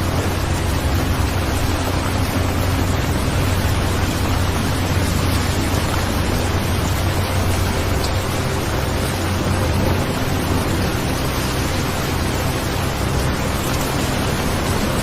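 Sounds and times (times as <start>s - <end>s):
low rumble: 0.0s - 15.0s
steady rain: 0.0s - 15.0s.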